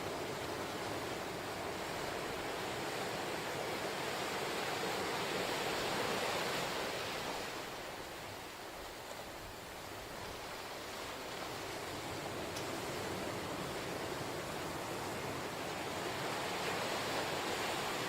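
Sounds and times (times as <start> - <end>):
ocean waves breaking on shore: 0.0 - 18.0.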